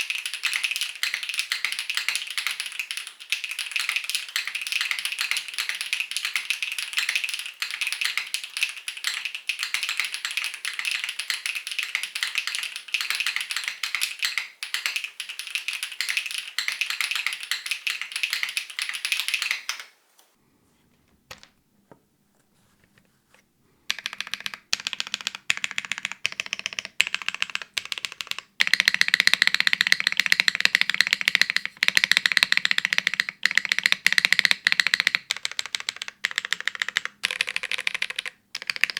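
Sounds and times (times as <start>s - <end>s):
mechanical keyboard typing: 0.0s - 19.9s, 23.9s - 38.9s.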